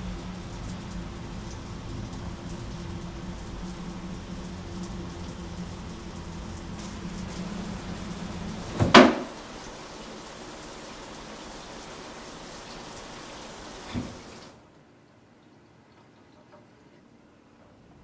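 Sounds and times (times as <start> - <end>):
steady hiss with low hum: 0.0 - 18.0.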